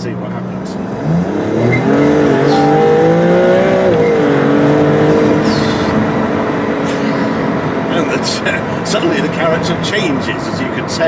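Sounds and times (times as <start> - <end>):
car engine accelerating: 0.4 - 9.8.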